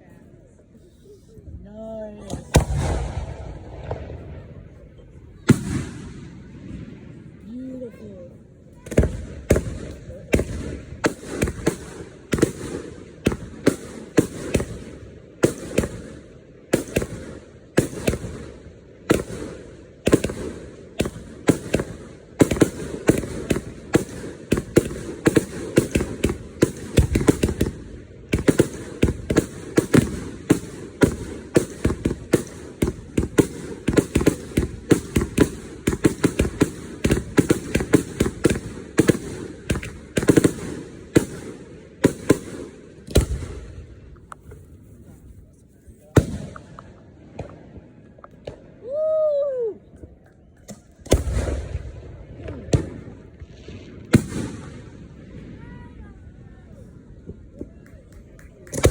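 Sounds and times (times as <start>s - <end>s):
fireworks bangs: 2.2s - 49.0s, 50.0s - 58.9s.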